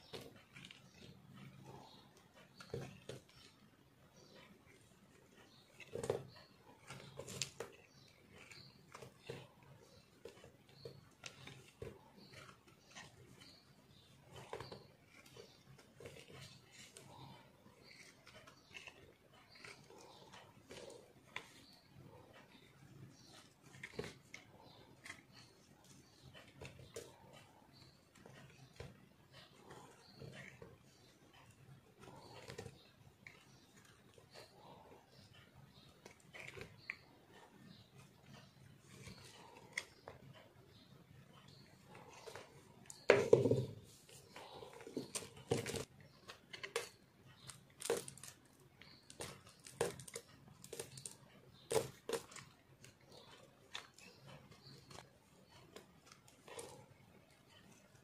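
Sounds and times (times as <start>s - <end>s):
knife scraping soap: 0.0s - 58.0s.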